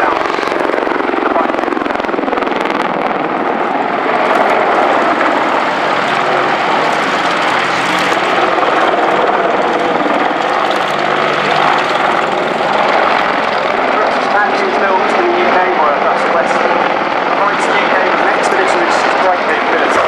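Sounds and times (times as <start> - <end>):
helicopter rotor and engines: 0.0 - 20.0.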